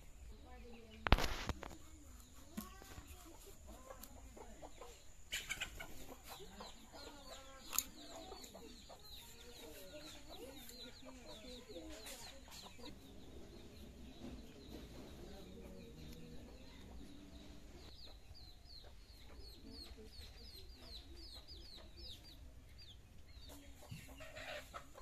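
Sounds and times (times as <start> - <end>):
small birds chirping: 0.0 - 25.0
chickens clucking: 0.2 - 25.0.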